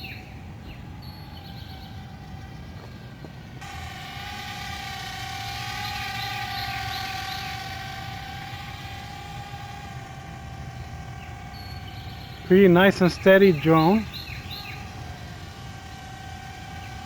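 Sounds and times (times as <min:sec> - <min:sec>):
quadcopter propellers whining: 0:00.0 - 0:17.0.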